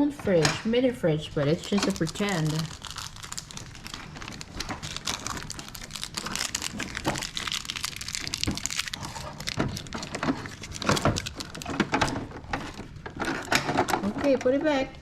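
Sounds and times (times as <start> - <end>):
plastic packaging crinkling: 1.3 - 14.3.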